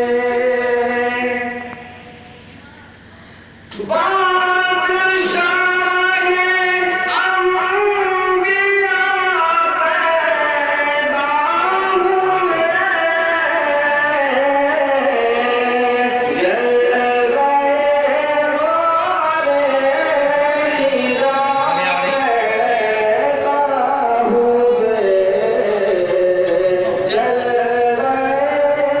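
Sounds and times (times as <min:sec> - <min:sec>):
man singing into microphone: 0:00.0 - 0:02.1, 0:03.7 - 0:29.0.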